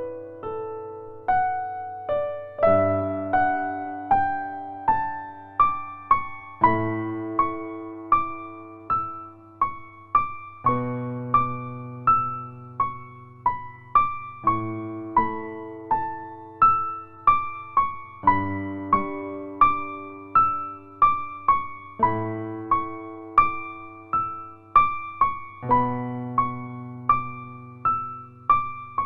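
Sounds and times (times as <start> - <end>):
piano-like notes: 0.0 - 29.0.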